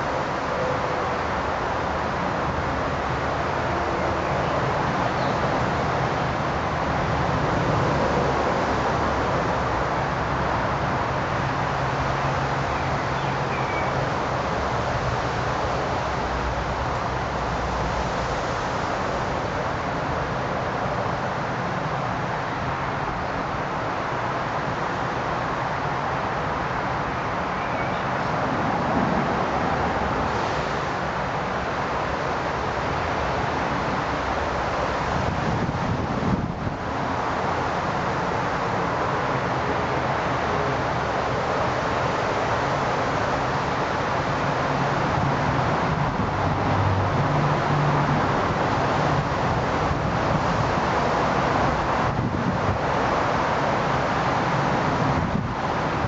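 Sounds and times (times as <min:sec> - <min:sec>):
outdoor rumble and hiss: 0:00.0 - 0:56.0.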